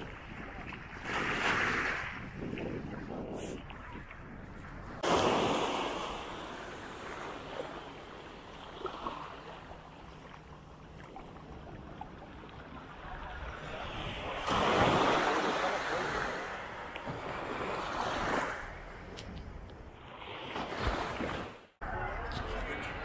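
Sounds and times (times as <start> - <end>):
small waves breaking: 0.0 - 4.1, 4.9 - 19.2, 20.0 - 21.8.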